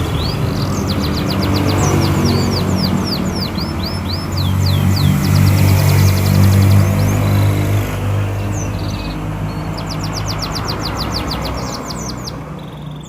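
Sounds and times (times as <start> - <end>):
canary singing trills: 0.0 - 13.0.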